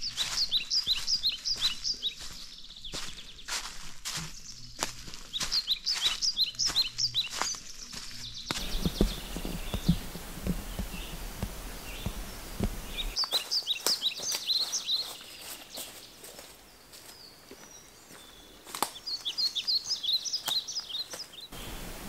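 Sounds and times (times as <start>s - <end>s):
footsteps on forest trail: 0.0s - 22.0s
songbird chirping: 0.0s - 22.0s.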